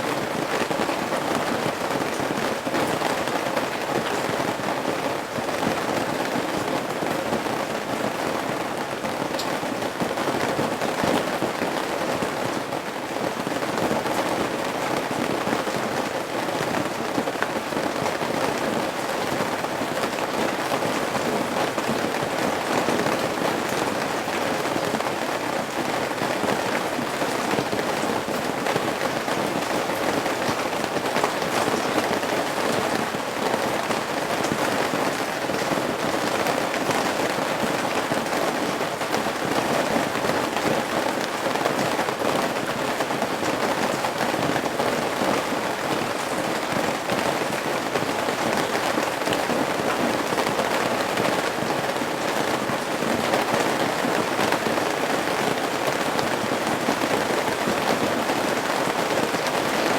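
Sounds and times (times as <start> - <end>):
rain pattering on roof: 0.0 - 59.9.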